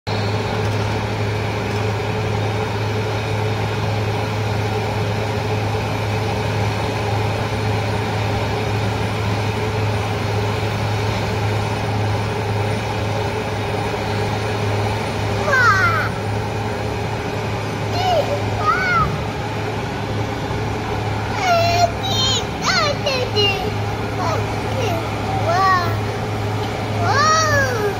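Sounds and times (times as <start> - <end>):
paving machinery engines droning: 0.1 - 27.9.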